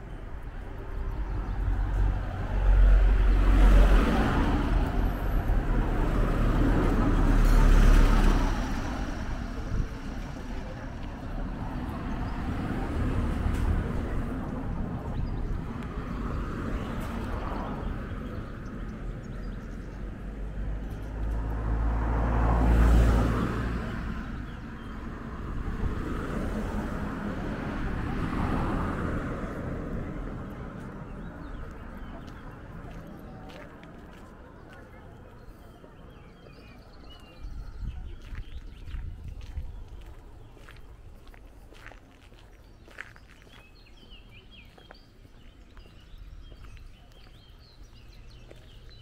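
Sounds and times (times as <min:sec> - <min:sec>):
cars passing on a road: 0:00.0 - 0:49.0.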